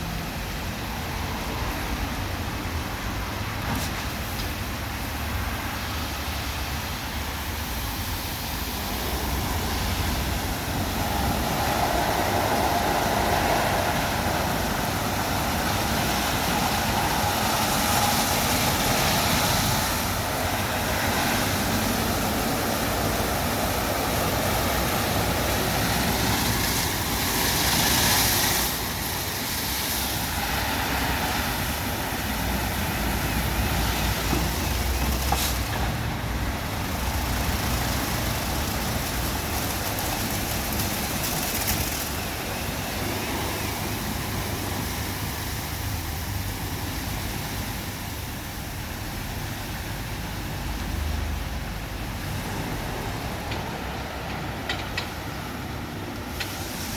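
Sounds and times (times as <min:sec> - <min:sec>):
car wash machine and water: 0:00.0 - 0:56.9.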